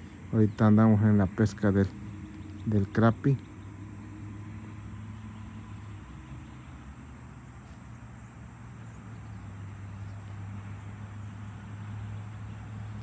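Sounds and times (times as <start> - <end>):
faint outdoor hiss: 0.0 - 13.0
low mechanical hum: 0.0 - 13.0.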